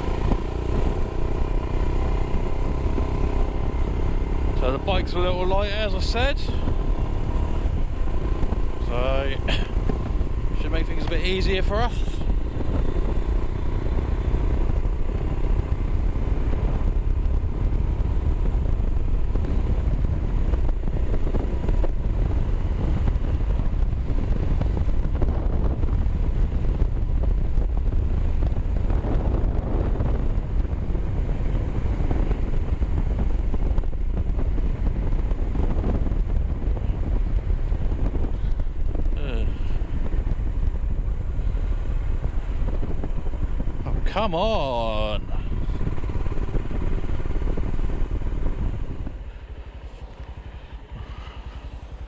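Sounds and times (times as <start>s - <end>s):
motorcycle engine running: 0.0s - 52.0s
wind rushing over microphone: 0.0s - 52.0s.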